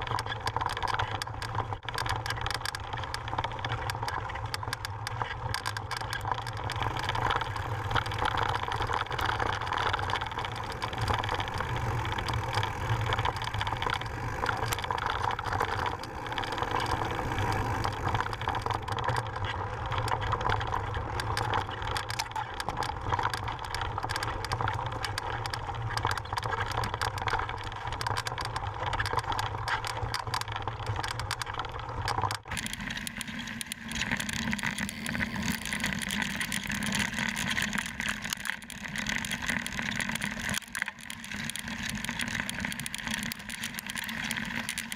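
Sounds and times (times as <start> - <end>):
bike rattles and knocks: 0.0 - 44.9
bike tyres on gravel: 0.0 - 44.9.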